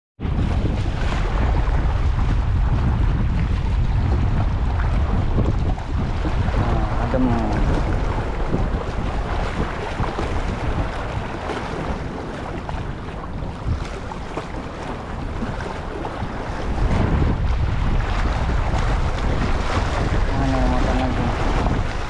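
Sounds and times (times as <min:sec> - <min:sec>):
waves splashing against rocks: 0:00.2 - 0:22.0
wind buffeting microphone: 0:00.2 - 0:22.0.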